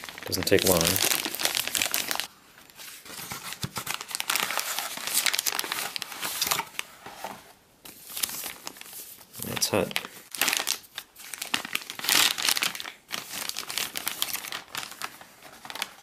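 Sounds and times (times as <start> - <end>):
plastic and foil crinkling: 0.0 - 16.0.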